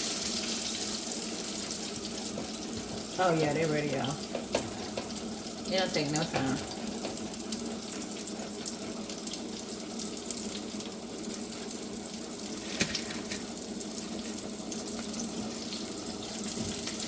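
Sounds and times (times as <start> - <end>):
frying sizzle with crackles: 0.0 - 17.0.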